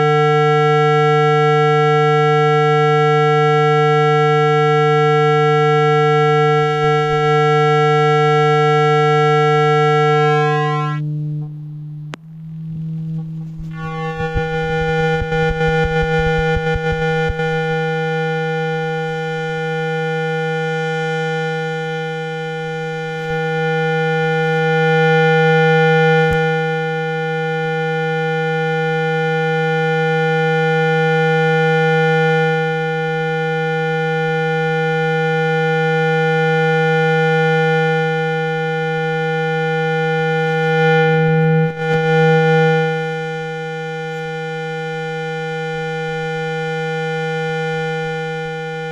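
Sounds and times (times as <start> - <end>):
low buzzing tone: 0.0 - 48.9.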